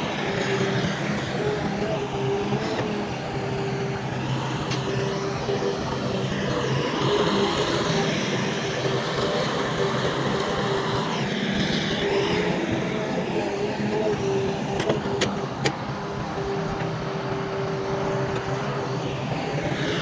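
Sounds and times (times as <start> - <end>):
diesel machinery running: 0.0 - 20.0.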